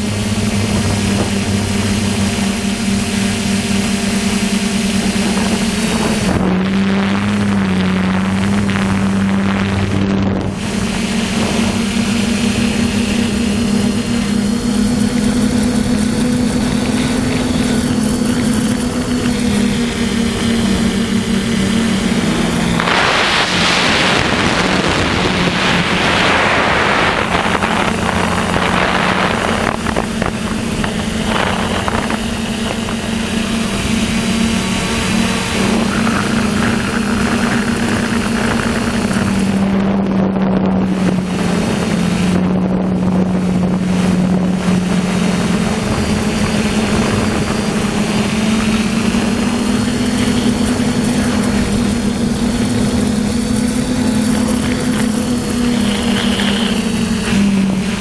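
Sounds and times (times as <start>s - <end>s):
drone motors humming: 0.0s - 58.0s
wind rushing over microphone: 0.0s - 58.0s.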